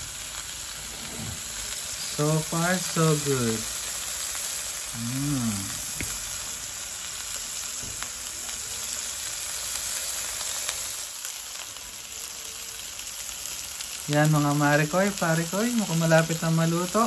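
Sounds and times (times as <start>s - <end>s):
steak sizzling in oil: 0.0s - 17.0s.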